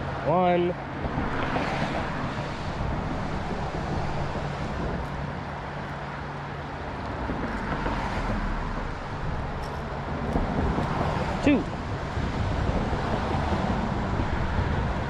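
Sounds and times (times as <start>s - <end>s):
deep traffic rumble: 0.0s - 15.0s
engine hum: 0.0s - 15.0s.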